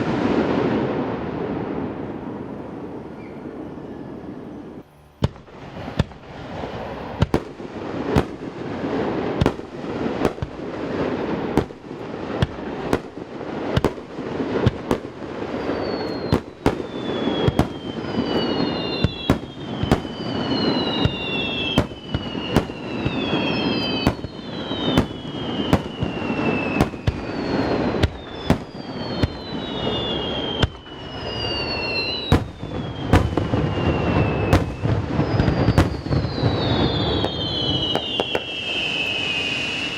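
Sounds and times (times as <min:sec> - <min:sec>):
fireworks bursting and crackling: 0:00.0 - 0:39.9
whistling fireworks: 0:00.0 - 0:39.9.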